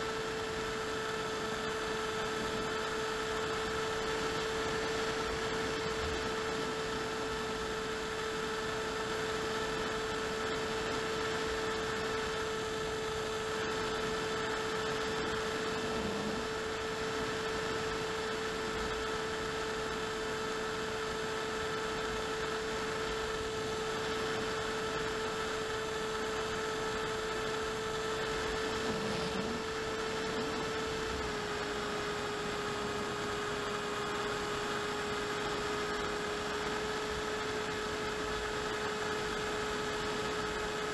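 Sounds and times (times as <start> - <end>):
electric motor and propeller whine: 0.0 - 40.9.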